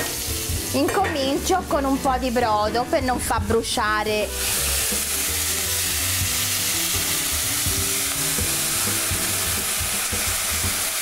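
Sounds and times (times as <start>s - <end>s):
meat sizzling in a frying pan: 0.0s - 2.8s, 4.0s - 11.0s.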